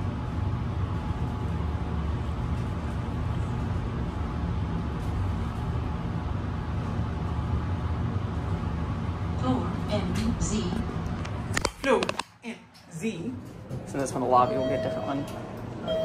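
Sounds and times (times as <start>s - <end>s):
elevator ride low rumble: 0.0s - 11.7s, 12.8s - 16.0s.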